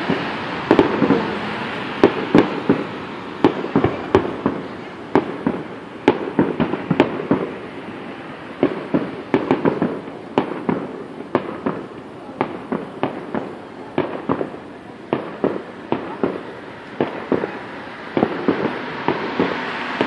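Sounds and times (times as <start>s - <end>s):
distant fireworks bangs and crackles: 0.0s - 20.0s.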